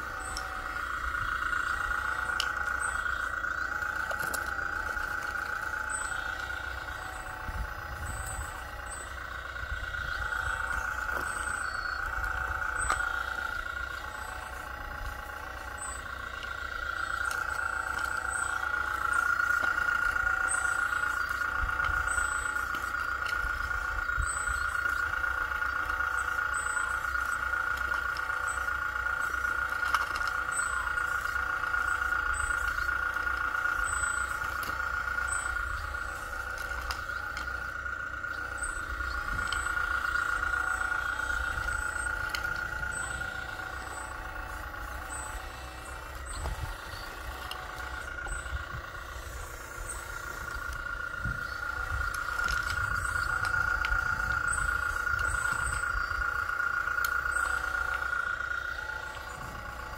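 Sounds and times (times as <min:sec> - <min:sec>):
toy excavator motor whining: 0:00.0 - 0:59.9.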